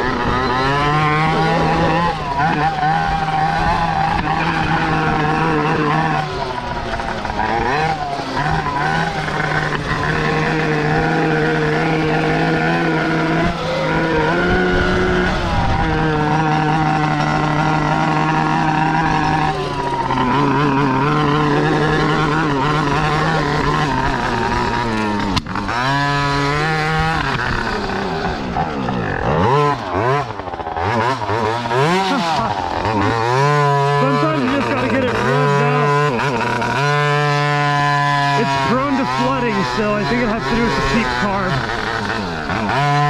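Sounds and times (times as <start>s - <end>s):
two-stroke engine revving: 0.0s - 43.0s.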